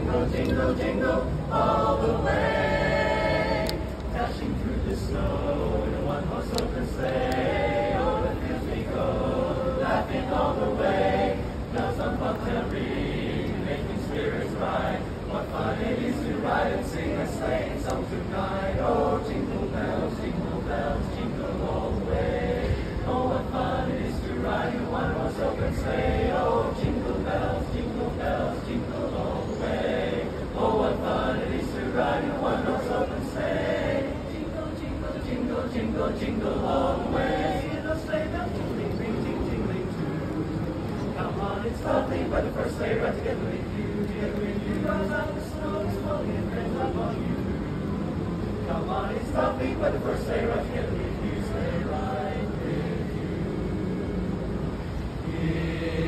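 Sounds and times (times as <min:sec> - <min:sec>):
choir singing a carol: 0:00.0 - 0:56.0.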